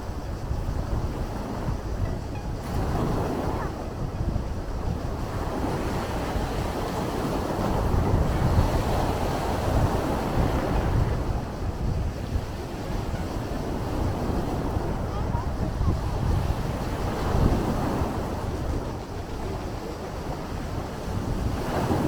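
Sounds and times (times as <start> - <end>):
sea waves washing ashore: 0.0 - 22.0
wind buffeting microphone: 0.0 - 22.0.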